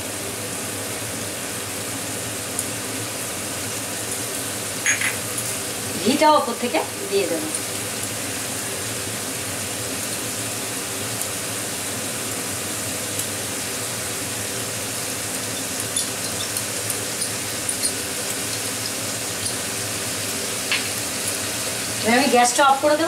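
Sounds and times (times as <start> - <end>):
cauliflower sizzling in frying pan: 0.0 - 23.0.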